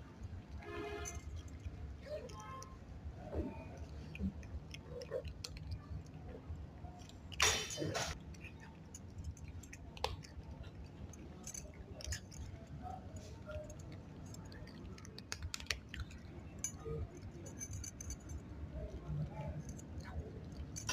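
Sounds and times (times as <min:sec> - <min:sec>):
cat chewing food: 0:00.1 - 0:20.9.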